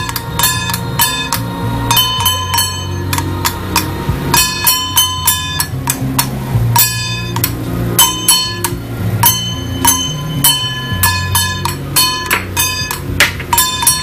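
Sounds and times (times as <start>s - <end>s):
low drone: 0.0s - 14.0s
metal gong struck in steady beat: 0.0s - 14.0s.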